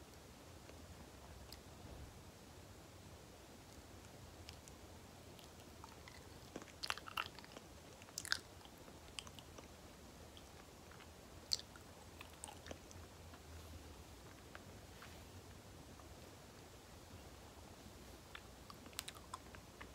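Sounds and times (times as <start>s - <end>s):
soft sticky chewing: 0.1s - 1.8s, 3.6s - 19.9s.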